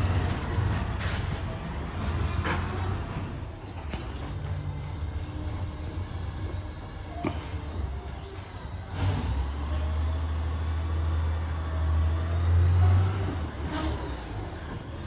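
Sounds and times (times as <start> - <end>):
garbage truck engine rumbling: 0.0 - 15.0.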